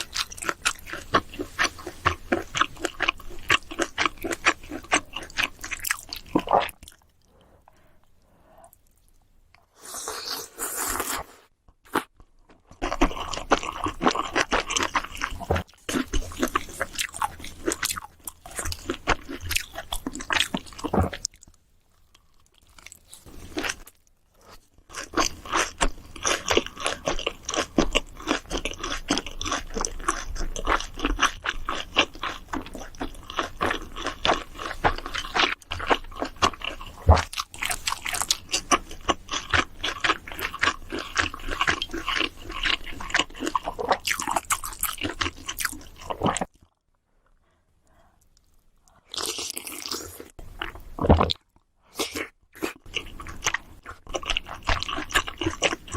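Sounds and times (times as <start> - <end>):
chewing crunchy food: 0.0 - 7.5, 10.2 - 46.9, 47.9 - 55.9.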